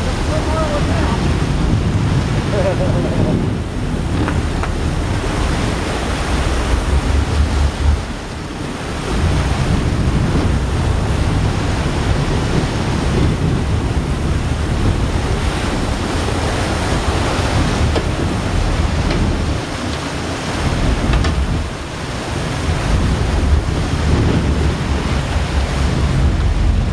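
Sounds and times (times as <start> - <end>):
low rumble: 0.0 - 26.9
rush of sea and boat wake: 0.0 - 26.9
wind buffeting microphone: 0.0 - 26.9.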